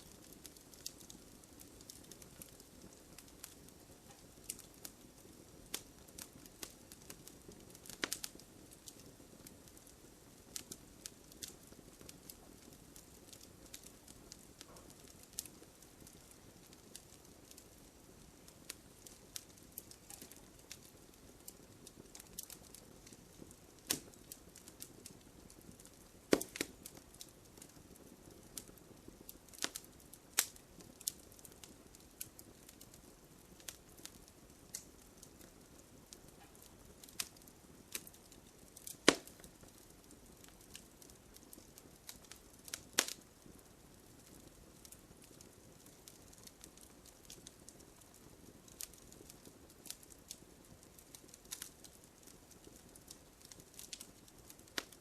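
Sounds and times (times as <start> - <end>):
bonfire crackling: 0.0 - 55.0.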